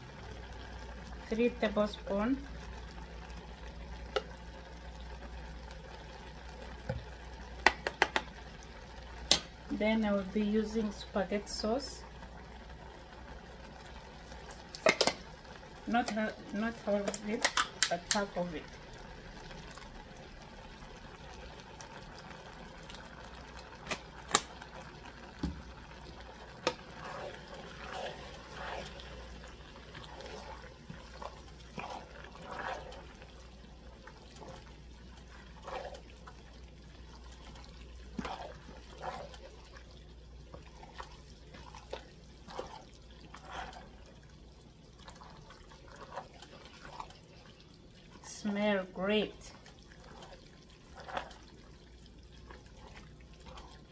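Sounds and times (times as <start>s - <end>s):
sauce pouring into pot: 0.0s - 53.9s
wooden spoon stirring wet food: 0.2s - 5.3s, 5.9s - 53.9s.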